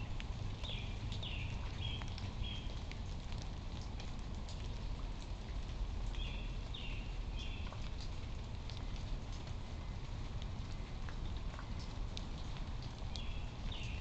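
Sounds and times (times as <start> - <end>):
light rain pattering: 0.0 - 14.0.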